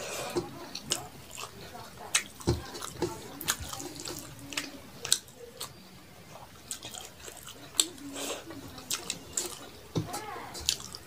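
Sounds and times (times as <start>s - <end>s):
sticky squish of rice mixing: 0.0s - 11.0s
wet chewing and mouth clicks: 0.0s - 11.0s.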